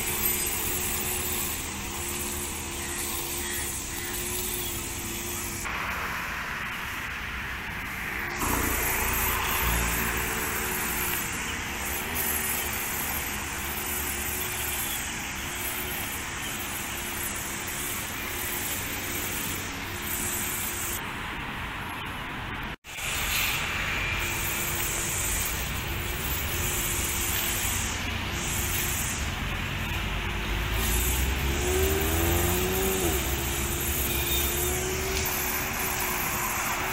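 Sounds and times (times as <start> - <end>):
grass trimmer engine running: 0.0 - 5.9, 8.3 - 21.0, 23.0 - 36.9
road traffic noise: 0.0 - 36.9.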